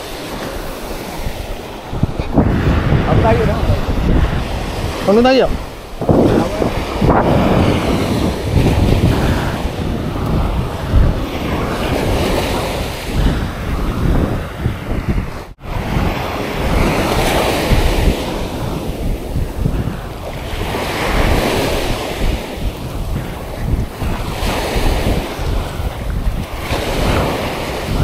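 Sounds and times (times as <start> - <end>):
sea surf washing onto beach: 0.0 - 28.0
wind buffeting microphone: 0.0 - 28.0.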